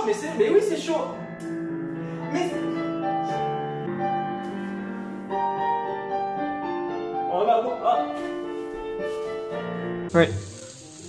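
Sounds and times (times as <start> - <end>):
piano playing slow melody: 0.0 - 11.0.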